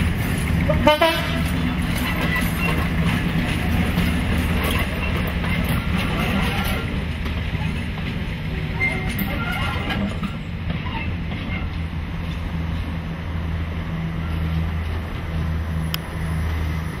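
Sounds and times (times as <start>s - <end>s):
diesel locomotive engine droning: 0.0s - 17.0s
wheel and rail noise: 0.0s - 17.0s.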